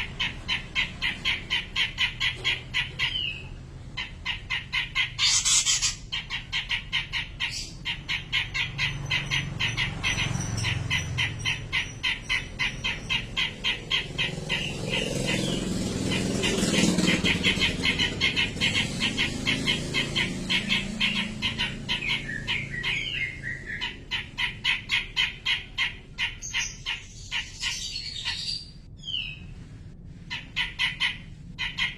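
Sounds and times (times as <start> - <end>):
bird chattering call: 0.0 - 29.4, 30.3 - 31.9.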